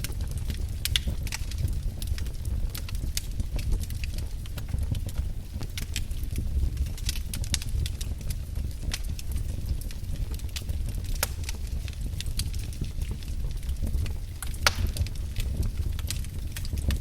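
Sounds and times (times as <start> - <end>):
fire popping and snapping: 0.0 - 17.0
low rumble of flames: 0.0 - 17.0.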